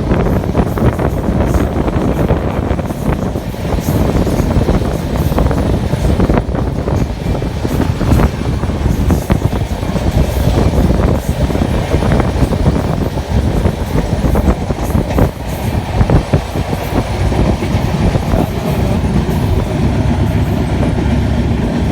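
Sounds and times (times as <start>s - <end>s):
train wheels rumbling: 0.0s - 21.9s
wheels clattering over rail joints: 0.0s - 21.9s.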